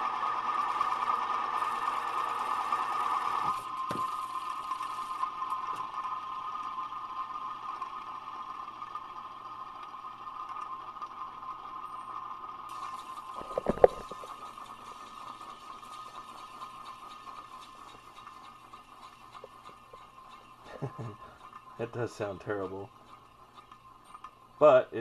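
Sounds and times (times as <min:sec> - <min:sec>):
ceiling fan motor whining: 0:00.0 - 0:25.0.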